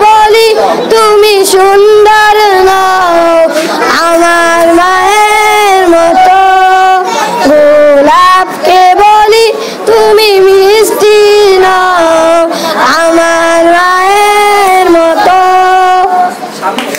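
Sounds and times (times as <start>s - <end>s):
boy singing into a microphone: 0.0s - 16.4s.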